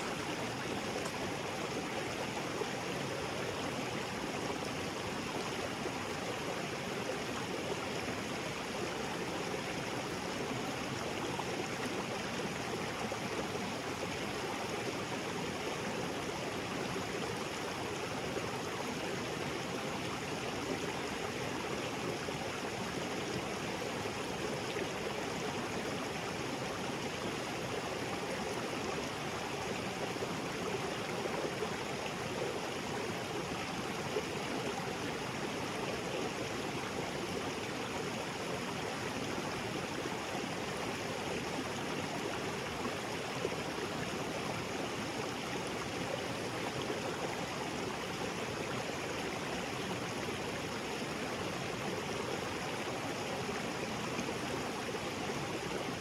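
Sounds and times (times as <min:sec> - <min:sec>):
small waterfall rushing and splashing: 0:00.0 - 0:56.0.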